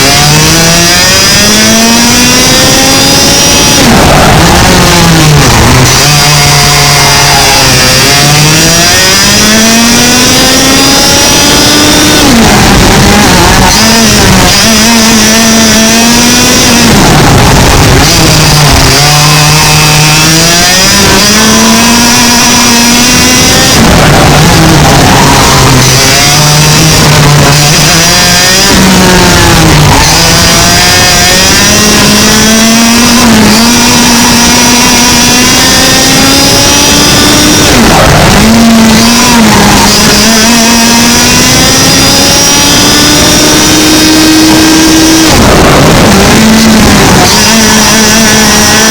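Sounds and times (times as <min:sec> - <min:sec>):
kart engine racing: 0:00.0 - 0:48.9.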